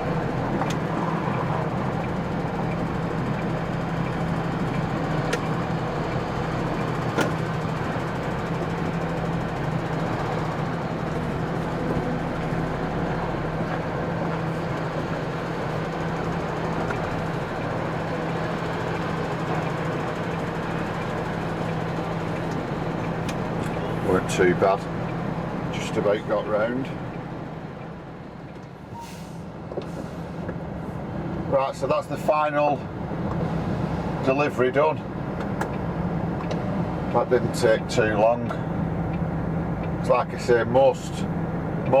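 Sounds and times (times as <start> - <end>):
lorry diesel engine running: 0.0 - 42.0.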